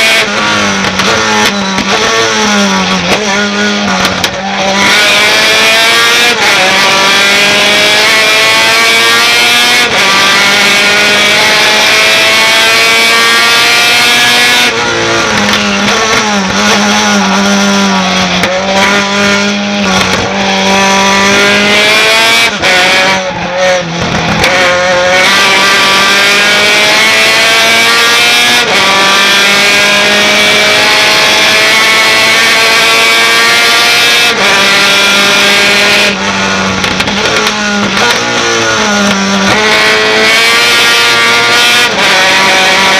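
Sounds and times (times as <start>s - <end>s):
truck engine revving through gears: 0.0s - 42.9s.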